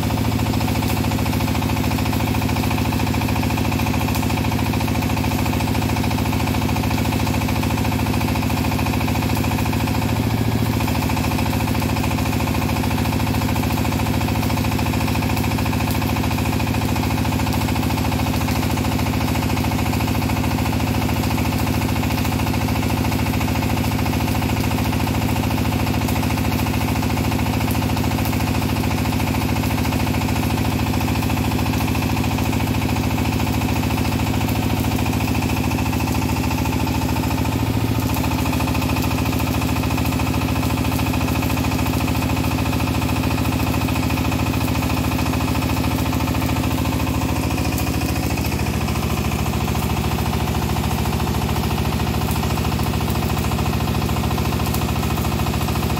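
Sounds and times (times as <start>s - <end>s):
small diesel engine running: 0.0s - 55.9s.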